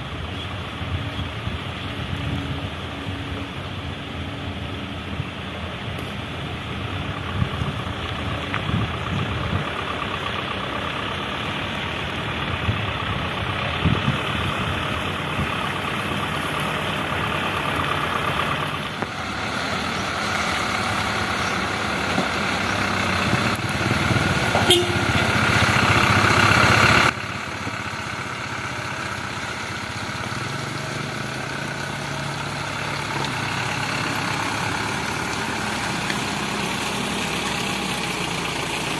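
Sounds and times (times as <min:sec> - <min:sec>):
construction machinery engines running: 0:00.0 - 0:38.9.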